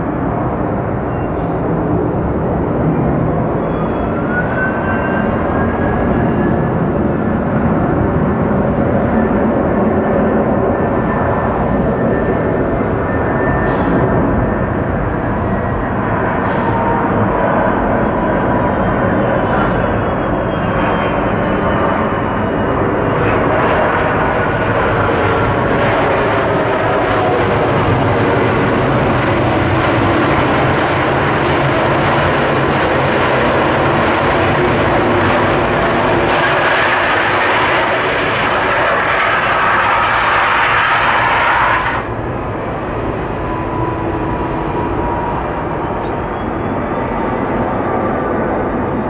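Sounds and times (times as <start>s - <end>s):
jet engine idle whine: 0.0s - 49.0s
jet engine rushing noise: 0.0s - 49.0s.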